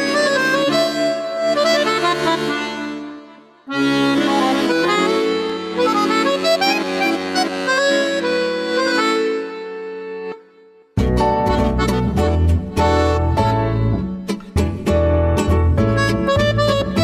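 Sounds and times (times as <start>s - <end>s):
swing music with accordion: 0.0s - 17.0s.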